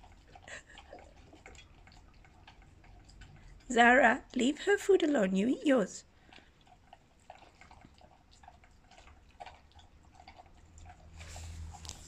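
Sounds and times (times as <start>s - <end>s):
pets chewing food: 0.0s - 12.0s.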